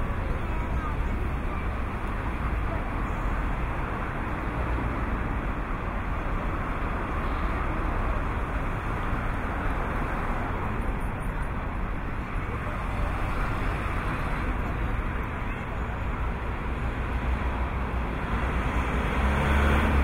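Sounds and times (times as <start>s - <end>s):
distant city traffic hum: 0.0s - 20.0s.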